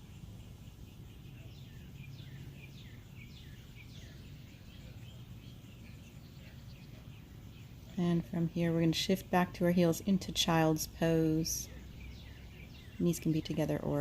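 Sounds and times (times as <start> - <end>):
faint bird chirps: 0.0 - 9.3, 11.0 - 14.0.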